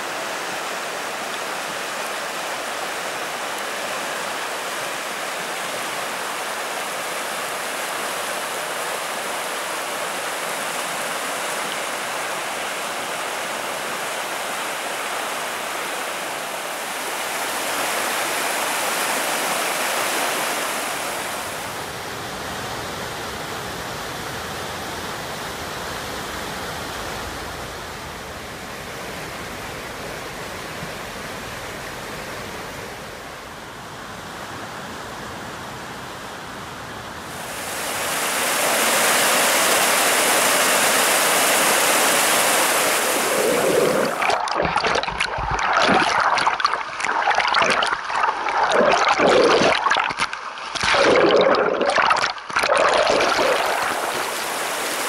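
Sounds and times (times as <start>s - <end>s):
river rushing: 0.0s - 36.0s, 36.7s - 55.0s.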